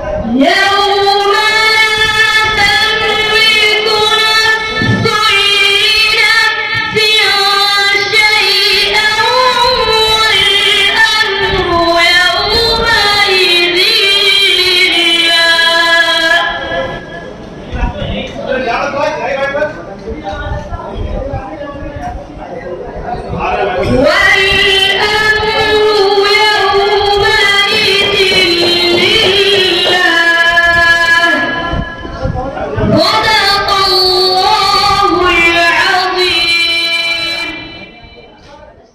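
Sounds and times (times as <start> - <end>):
boy chanting melodically: 0.0 - 17.2, 23.4 - 38.4.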